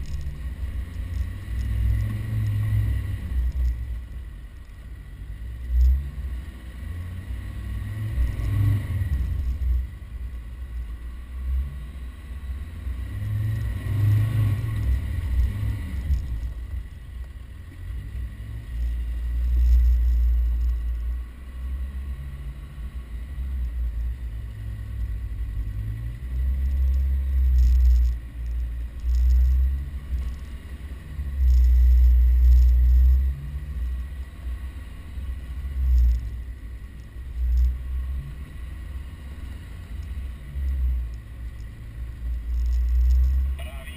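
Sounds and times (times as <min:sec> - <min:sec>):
off-road vehicle engine rumbling: 0:00.0 - 0:43.9.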